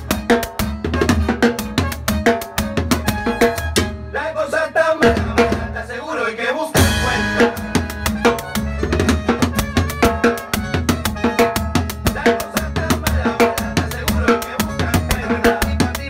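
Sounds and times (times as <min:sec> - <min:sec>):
salsa band music: 0:00.0 - 0:06.2, 0:06.8 - 0:16.0.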